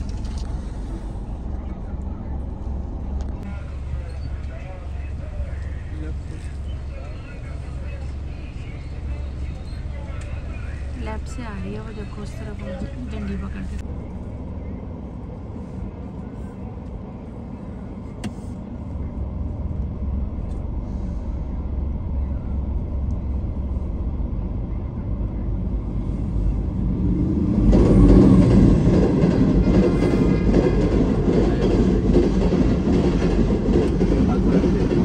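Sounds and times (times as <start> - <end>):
passenger train passing: 0.0 - 35.0.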